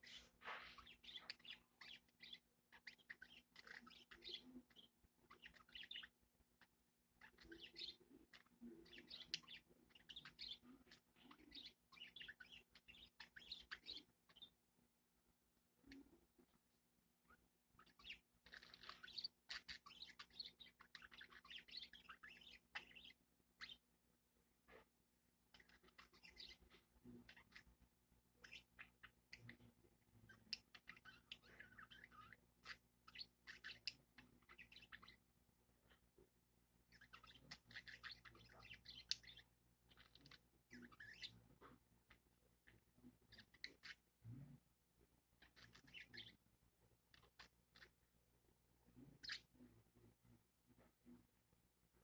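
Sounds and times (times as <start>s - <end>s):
small bird chirping and chattering: 0.0s - 14.8s, 15.6s - 24.0s, 24.6s - 52.0s.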